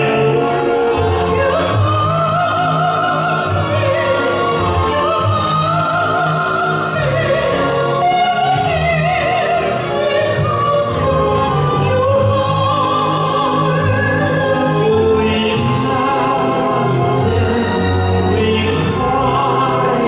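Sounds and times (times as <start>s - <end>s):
classical singing with vibrato: 0.0s - 20.0s
orchestral accompaniment: 0.0s - 20.0s.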